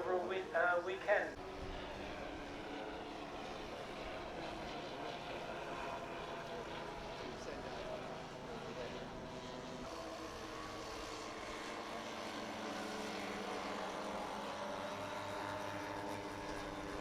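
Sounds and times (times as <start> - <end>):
model aircraft motors humming: 0.0 - 17.0.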